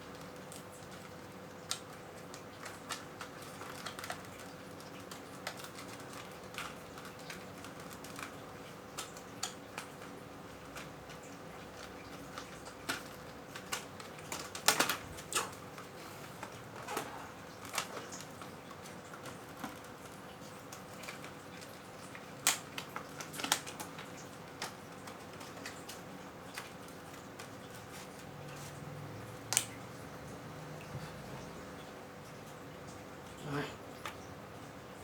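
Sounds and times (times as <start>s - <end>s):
plastic packaging handled: 0.0s - 29.8s.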